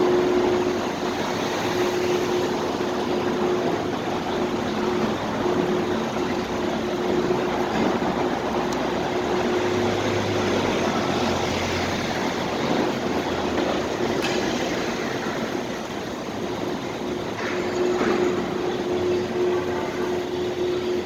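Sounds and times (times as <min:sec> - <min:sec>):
mid-pitched drone: 0:00.0 - 0:21.0
vehicle and machinery noise: 0:00.0 - 0:21.0.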